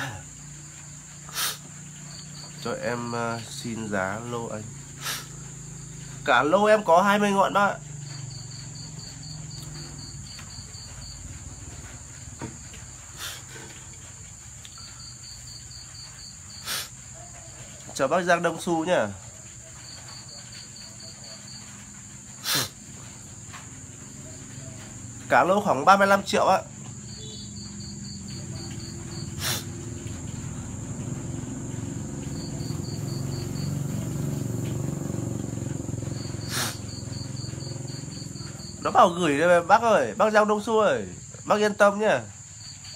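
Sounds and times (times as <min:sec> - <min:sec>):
crickets chirping: 0:00.0 - 0:42.9
high insect trill: 0:00.0 - 0:42.9.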